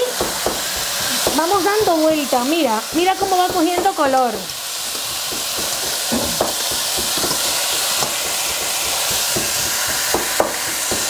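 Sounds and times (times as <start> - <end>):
ribs sizzling in hot oil: 0.0 - 11.0.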